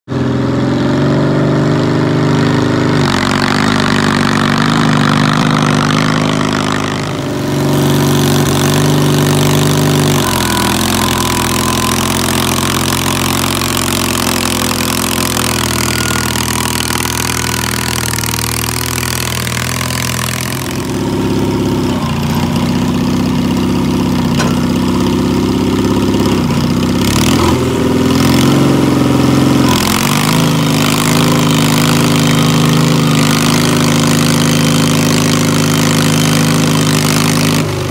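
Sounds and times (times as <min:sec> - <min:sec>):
tractor engine running hard: 0:00.1 - 0:37.9.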